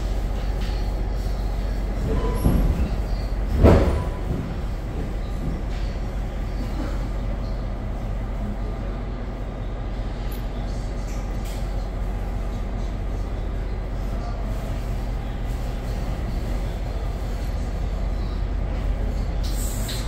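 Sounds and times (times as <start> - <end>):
train rumble from inside: 0.0 - 20.0.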